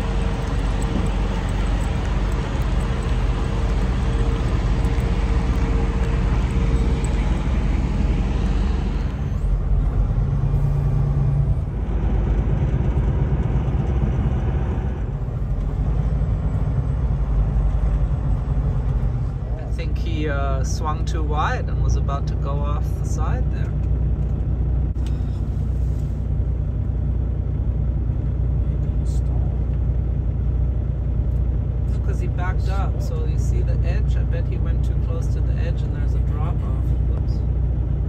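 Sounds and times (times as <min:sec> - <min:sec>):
diesel truck engine humming: 0:00.0 - 0:38.0
trucks and traffic running: 0:00.0 - 0:38.0.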